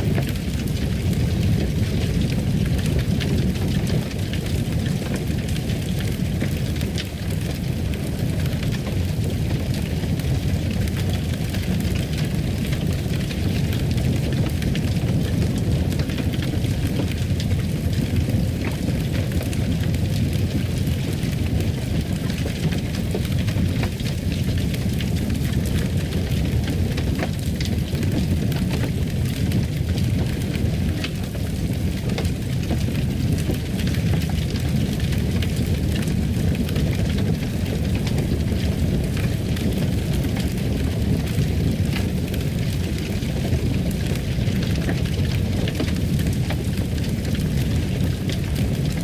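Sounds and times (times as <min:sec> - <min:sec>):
fire crackling: 0:00.0 - 0:49.0.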